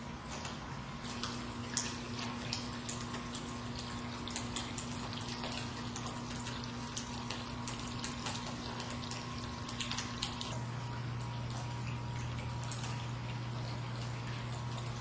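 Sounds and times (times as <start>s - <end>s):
steady low hum: 0.0s - 15.0s
small splashes: 0.2s - 15.0s
water running down glass: 1.0s - 15.0s.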